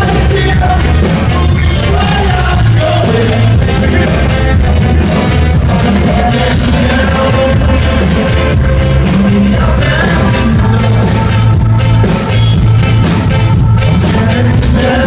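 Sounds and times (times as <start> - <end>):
person singing: 0.0 - 4.6, 5.6 - 12.4, 13.7 - 15.0
drum beat: 0.0 - 15.0
heavy bass line: 0.0 - 15.0
live band music: 0.0 - 15.0.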